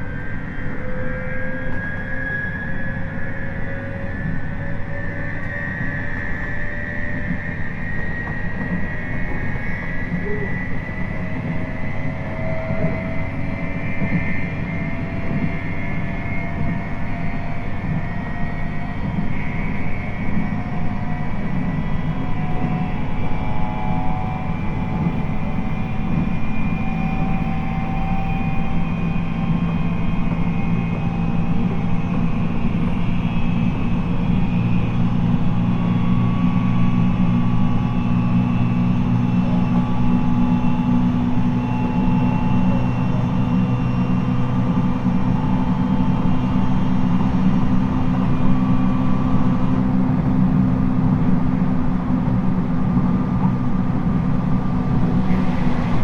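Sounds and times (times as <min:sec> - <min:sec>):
train jet-like whine: 0:00.0 - 0:56.0.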